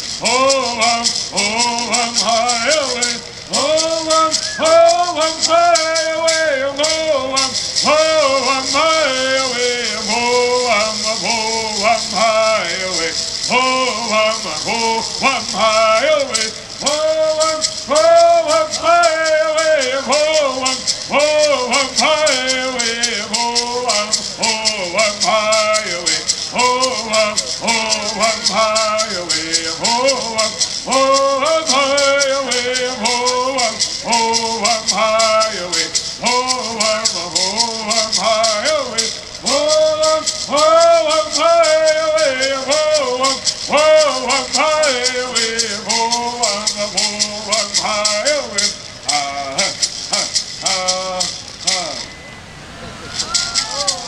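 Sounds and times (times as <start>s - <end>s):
gourd rattle shaking: 0.0s - 52.2s, 53.1s - 54.0s.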